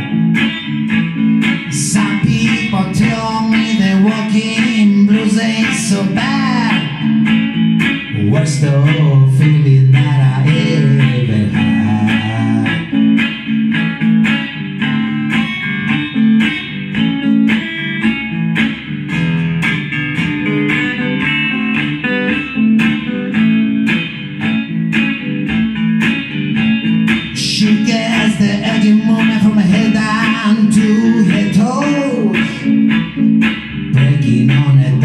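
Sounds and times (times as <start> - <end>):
blues guitar playing: 0.0 - 35.0.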